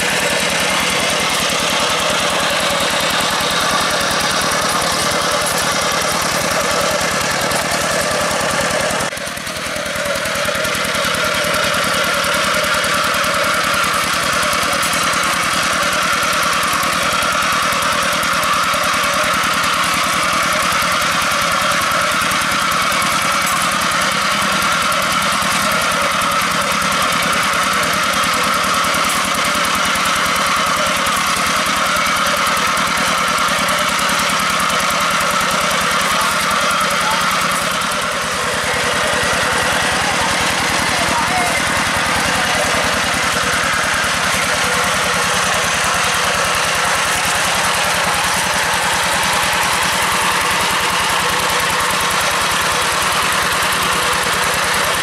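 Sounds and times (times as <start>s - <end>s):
diesel engine running under load: 0.0s - 55.0s
wheels churning through water: 0.0s - 55.0s.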